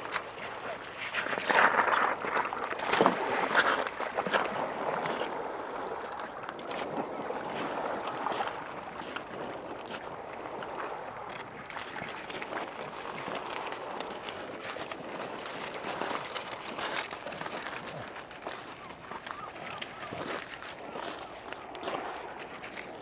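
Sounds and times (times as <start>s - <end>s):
dog splashing through water: 0.0s - 23.0s
water washing: 0.0s - 23.0s.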